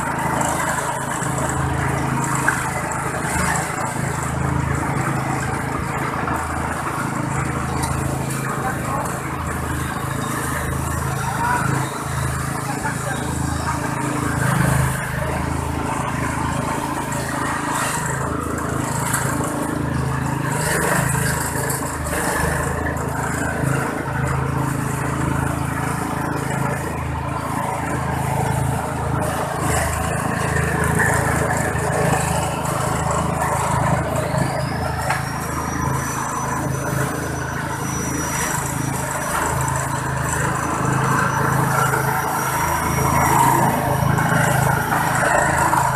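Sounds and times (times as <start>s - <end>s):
engine-powered shredder chopping: 0.0s - 45.9s.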